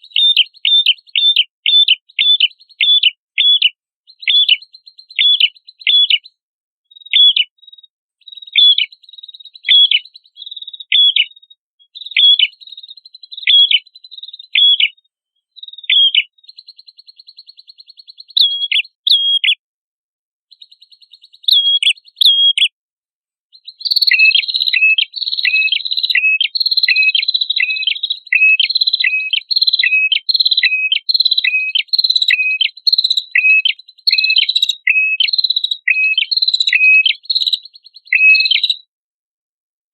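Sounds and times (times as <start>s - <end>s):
bird chirping: 0.0s - 19.6s, 20.5s - 22.7s, 23.5s - 38.9s
buzzy bird trill: 0.0s - 19.6s, 20.5s - 22.7s, 23.5s - 38.8s.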